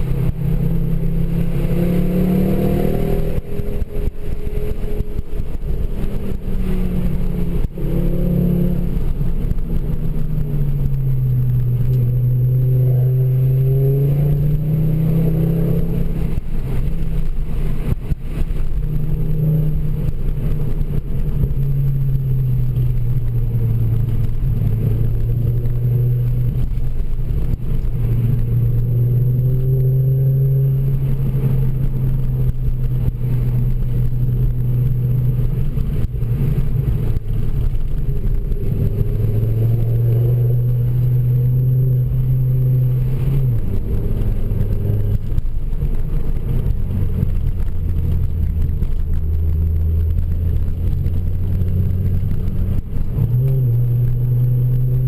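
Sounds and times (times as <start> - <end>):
car engine heard from cabin: 0.0 - 55.0.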